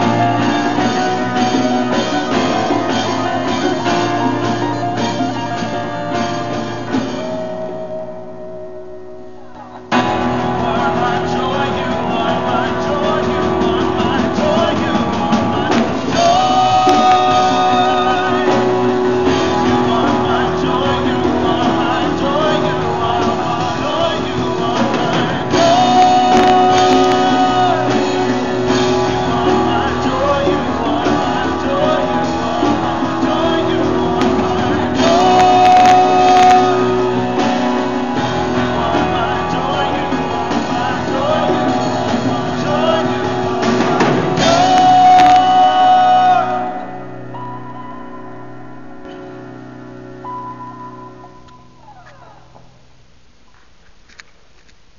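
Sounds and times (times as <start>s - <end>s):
person singing: 0.0s - 48.2s
rock band playing: 0.0s - 52.6s.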